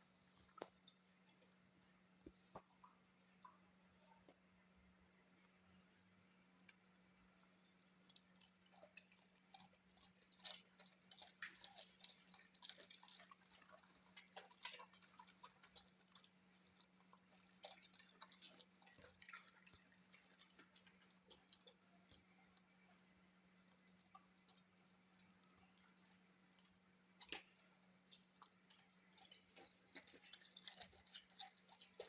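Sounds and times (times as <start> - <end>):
dog chewing wet food: 0.0 - 1.6, 6.6 - 32.0.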